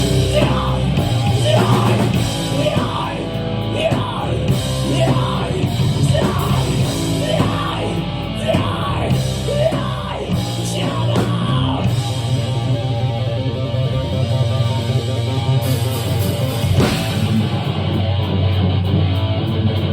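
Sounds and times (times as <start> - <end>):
crowd noise: 0.0 - 19.9
thrash metal band playing live: 0.0 - 19.9.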